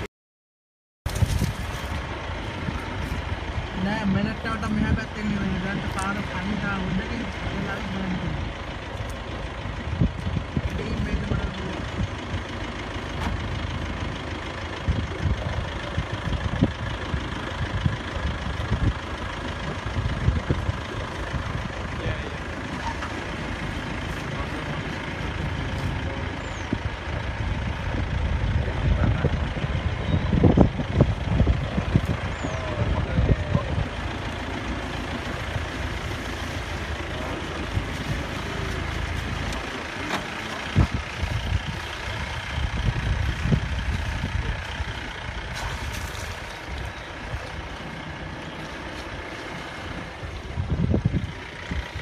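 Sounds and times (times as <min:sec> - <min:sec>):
engine knocks: 0:01.1 - 0:52.0
vehicle engine idling: 0:01.1 - 0:52.0.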